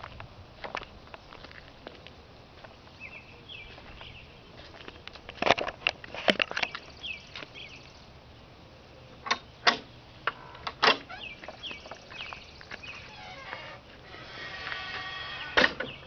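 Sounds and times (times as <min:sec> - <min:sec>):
birds chirping: 0:02.6 - 0:16.0.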